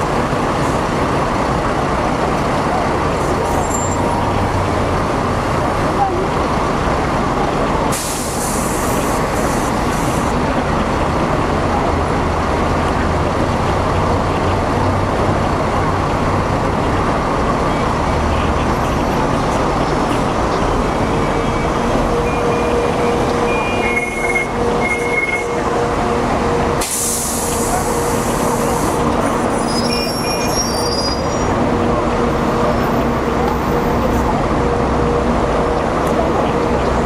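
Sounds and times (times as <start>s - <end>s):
vehicle running: 0.0s - 37.0s.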